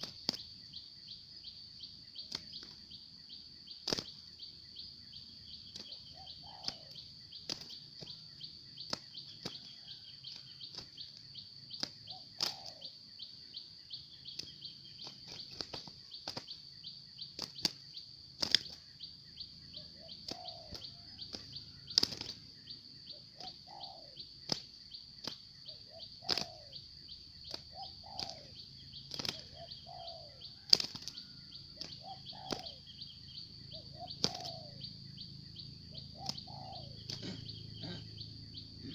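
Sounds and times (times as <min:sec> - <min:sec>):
doves calling: 0:00.0 - 0:38.9
high insect drone: 0:00.0 - 0:38.9.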